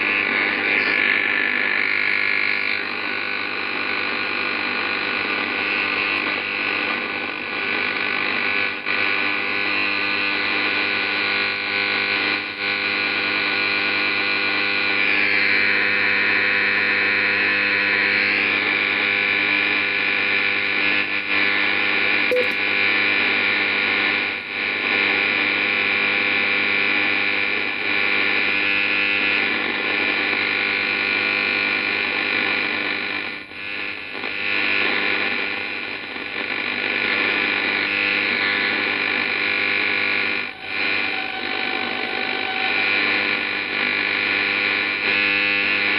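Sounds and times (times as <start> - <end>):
radio interference buzzing hiss: 0.0 - 45.9.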